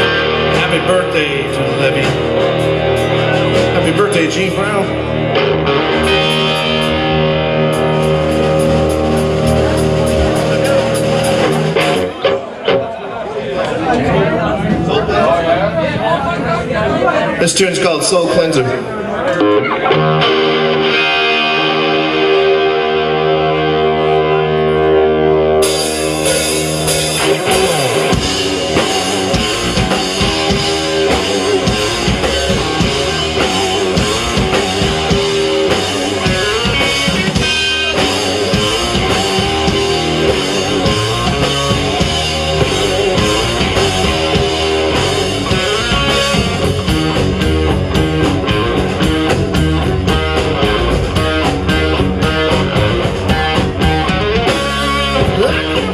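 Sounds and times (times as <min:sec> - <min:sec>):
electric guitar ringing chords: 0:00.0 - 0:12.8, 0:17.8 - 0:55.9
rock band playing: 0:00.0 - 0:55.9.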